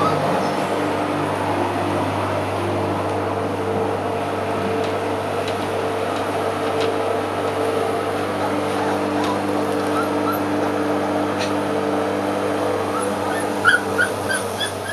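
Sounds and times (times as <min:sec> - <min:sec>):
lawn mower running: 0:00.0 - 0:14.9.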